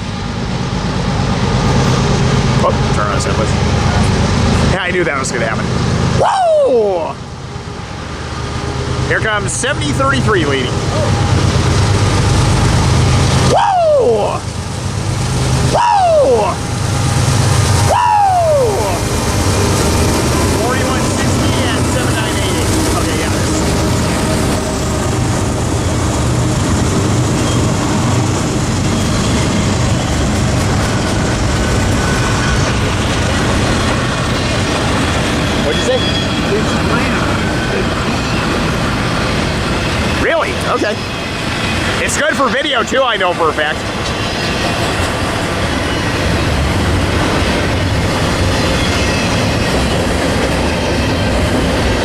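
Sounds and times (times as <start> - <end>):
freight train rumbling past: 0.0 - 52.0.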